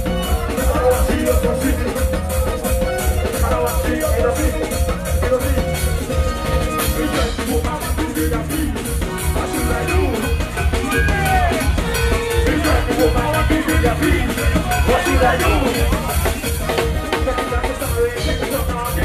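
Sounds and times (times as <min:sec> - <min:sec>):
drums fast beat: 0:00.0 - 0:19.0
live band music over a pa: 0:00.0 - 0:19.0.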